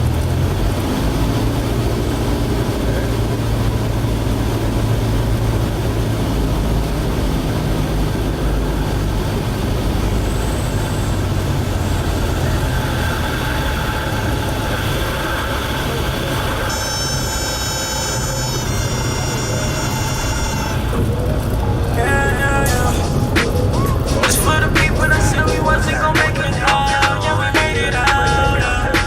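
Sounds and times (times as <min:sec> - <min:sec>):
propeller airplane engine droning: 0:00.0 - 0:29.0.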